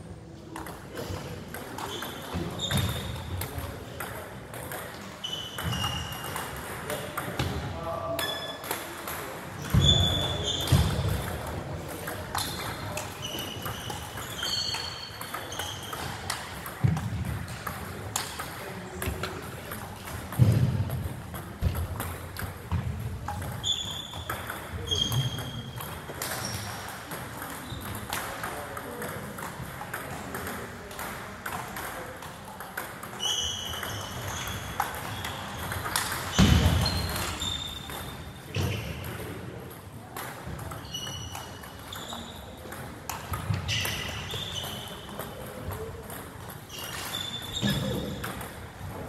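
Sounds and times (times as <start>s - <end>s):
background chatter: 0.0s - 49.0s
table tennis balls clicking: 0.4s - 7.6s, 8.2s - 49.0s.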